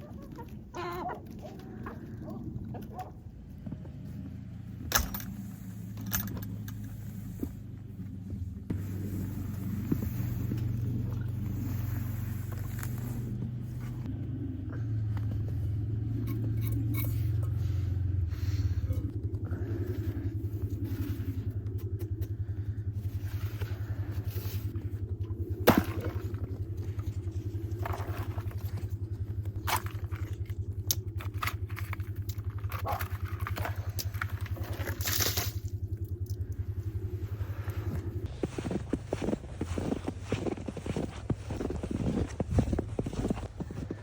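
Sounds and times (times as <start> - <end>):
engine running: 0.2 - 44.0.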